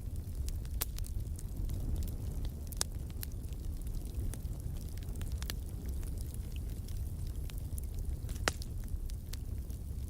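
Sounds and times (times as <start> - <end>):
fire crackling and popping: 0.0 - 10.0
fire rumbling: 0.0 - 10.0.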